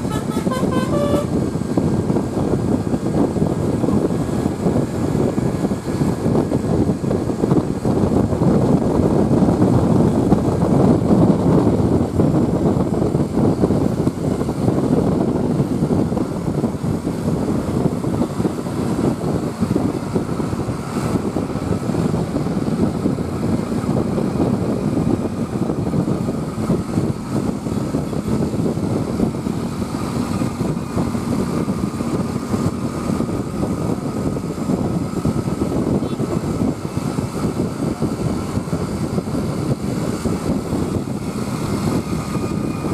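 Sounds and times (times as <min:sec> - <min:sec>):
road noise: 0:00.0 - 0:42.9
vehicle engine running: 0:00.0 - 0:42.9.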